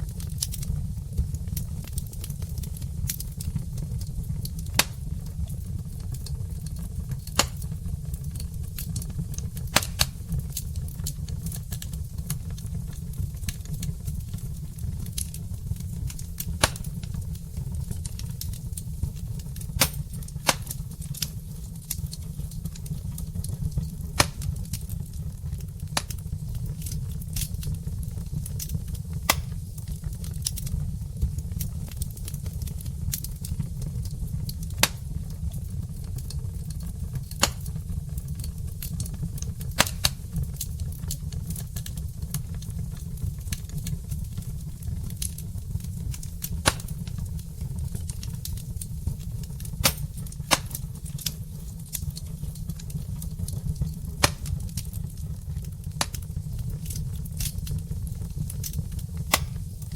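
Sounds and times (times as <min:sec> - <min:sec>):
fire low rumble: 0:00.0 - 0:59.9
logs crackling and popping: 0:00.0 - 0:59.9.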